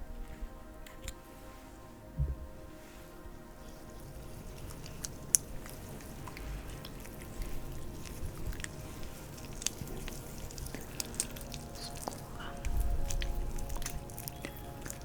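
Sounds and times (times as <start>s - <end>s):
hands rubbing oil on skin: 2.5s - 15.0s.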